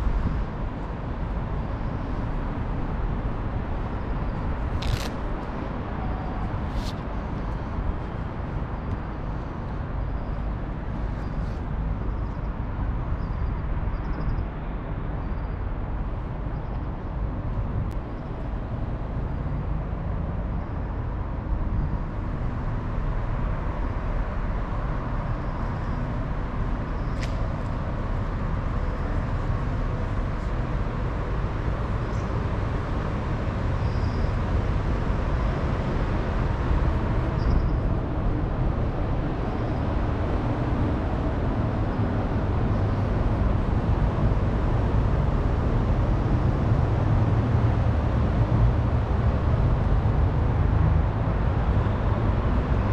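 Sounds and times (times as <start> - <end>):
low outdoor rumble: 0.0 - 52.9.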